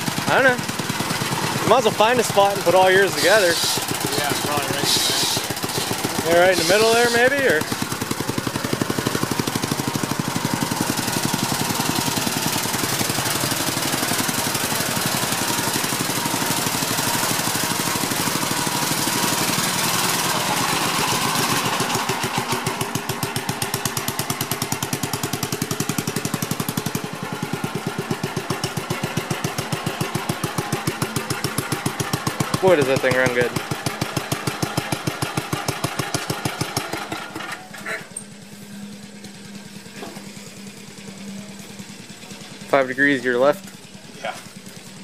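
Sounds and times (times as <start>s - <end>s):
high mower clatter: 0.0s - 45.0s
tractor engine running under load: 0.0s - 45.0s.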